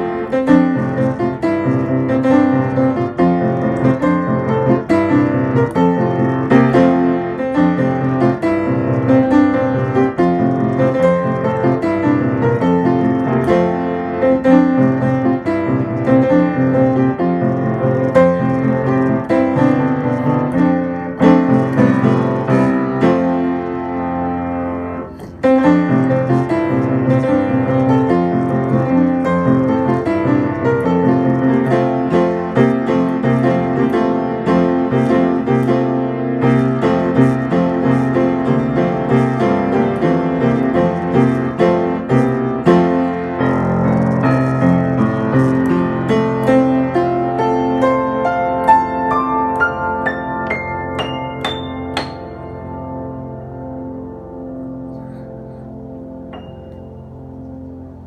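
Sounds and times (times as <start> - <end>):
fast piano music: 0.0 - 58.0.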